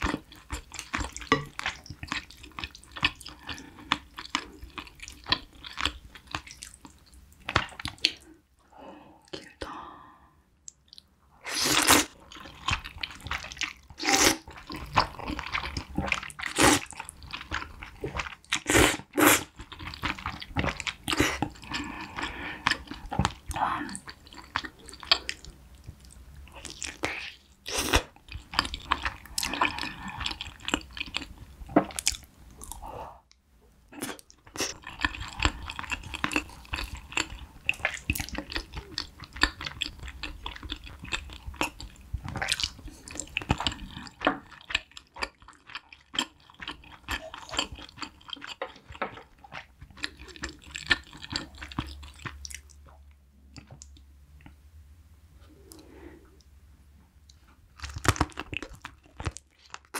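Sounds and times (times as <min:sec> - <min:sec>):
person chewing food: 0:00.0 - 0:08.4, 0:09.2 - 0:09.7, 0:10.6 - 0:33.4, 0:34.0 - 0:54.6, 0:57.2 - 0:59.9.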